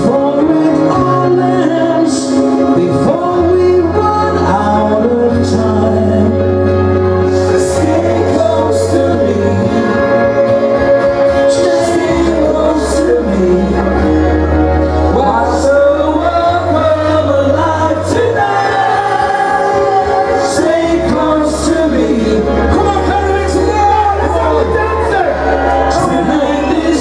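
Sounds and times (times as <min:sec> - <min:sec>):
backing music through speakers: 0:00.0 - 0:27.0
man singing into microphone: 0:00.0 - 0:27.0.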